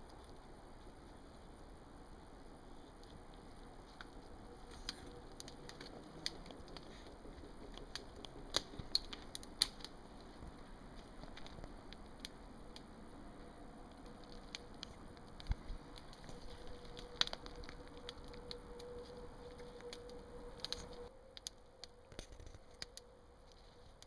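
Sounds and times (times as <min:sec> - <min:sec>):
faint steady hum: 0:00.0 - 0:24.0
twigs cracking: 0:02.9 - 0:24.0.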